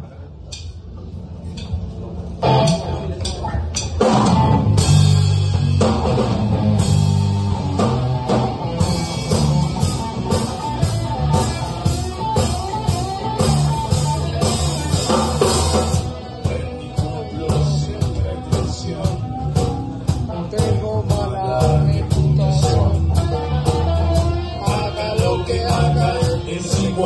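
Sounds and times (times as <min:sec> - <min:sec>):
electric bass: 0:00.0 - 0:27.0
electric guitar: 0:02.2 - 0:27.0
drum kit beat: 0:02.4 - 0:27.0.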